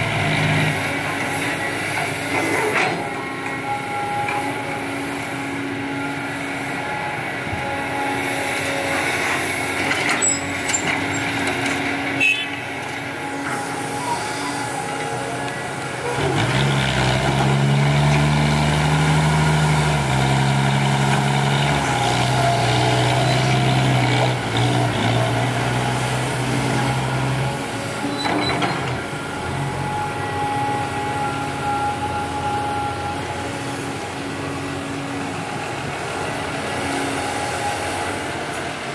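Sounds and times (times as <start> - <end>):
dump truck diesel engine: 0.0 - 38.9
excavator engine running: 0.0 - 38.9.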